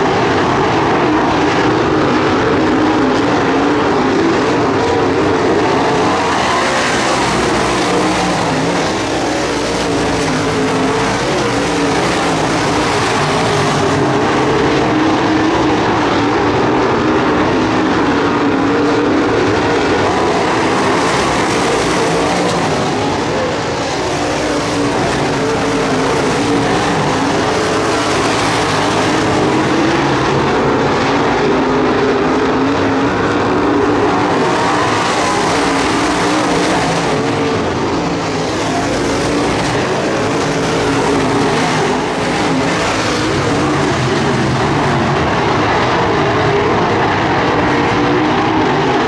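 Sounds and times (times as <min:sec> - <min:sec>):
race car engines droning: 0:00.0 - 0:49.0.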